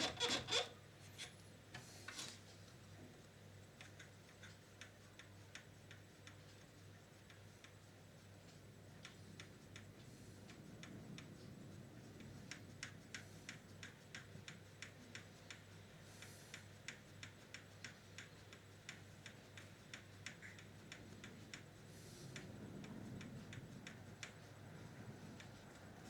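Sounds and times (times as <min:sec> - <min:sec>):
faint regular ticking: 0:00.1 - 0:26.0
soft hiss: 0:00.7 - 0:26.0.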